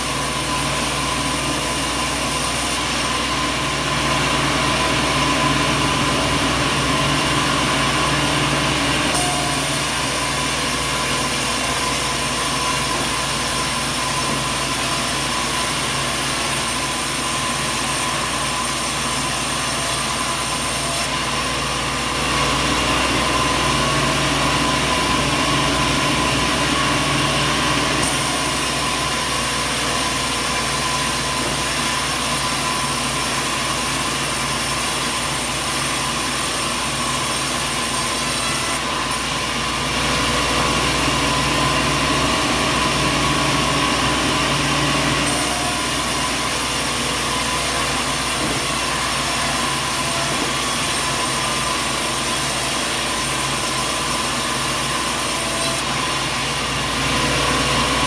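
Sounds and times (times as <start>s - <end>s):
saw cutting: 0.0s - 58.0s
sawmill engine noise: 0.0s - 58.0s.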